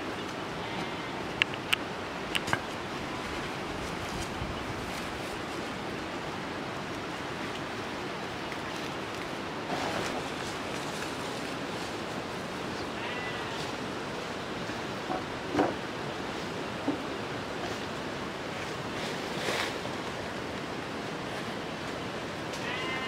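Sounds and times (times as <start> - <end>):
rushing background noise: 0.0 - 23.0.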